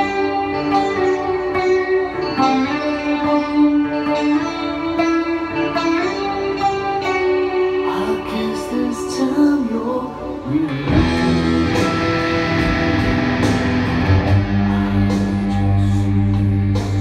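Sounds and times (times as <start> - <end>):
electric guitar lead melody: 0.0 - 17.0
heavy electric guitar passage: 0.0 - 17.0.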